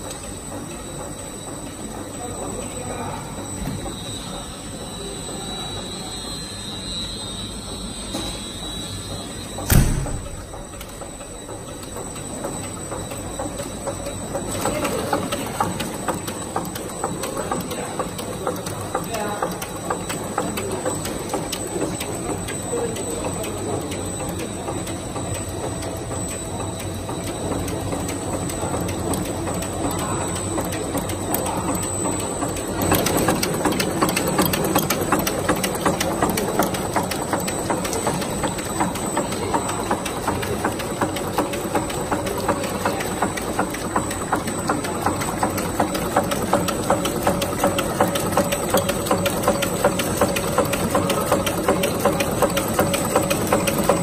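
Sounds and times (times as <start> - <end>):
production line machinery running: 0.0 - 54.0
machine parts clicking rapidly: 9.6 - 54.0.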